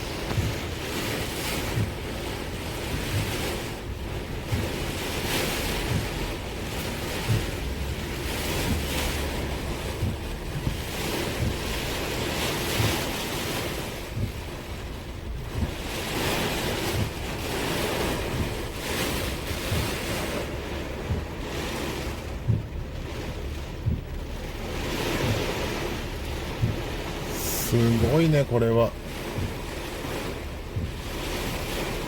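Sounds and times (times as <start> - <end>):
wind buffeting microphone: 0.0 - 28.2, 28.9 - 32.0
river rushing in flood: 0.0 - 32.0.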